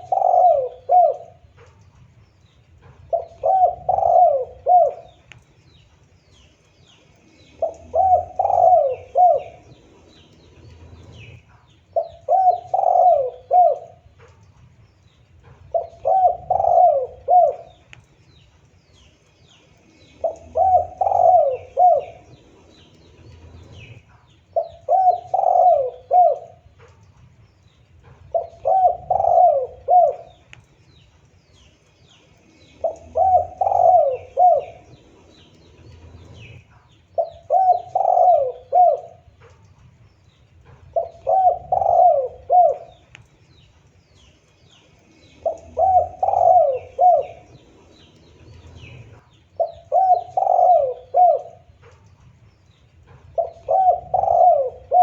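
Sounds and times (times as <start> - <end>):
dove cooing: 0.0 - 5.9, 7.2 - 14.5, 15.2 - 18.4, 19.8 - 55.0
small birds chirping: 0.0 - 55.0.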